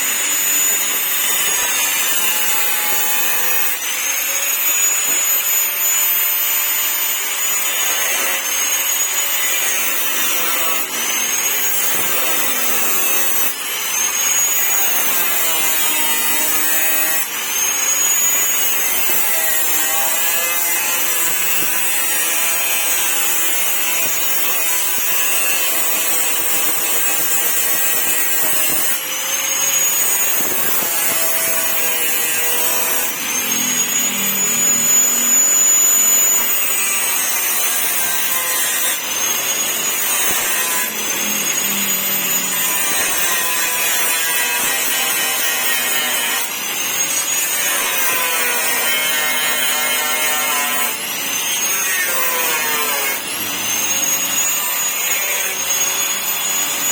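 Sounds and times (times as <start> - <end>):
power tool grinding metal: 0.0 - 56.9.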